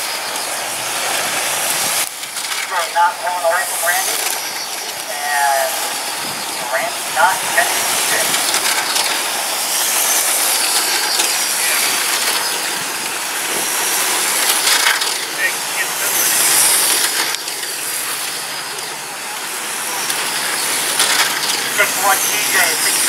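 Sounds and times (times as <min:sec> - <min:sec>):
electric rc trucks whining: 0:00.0 - 0:23.0.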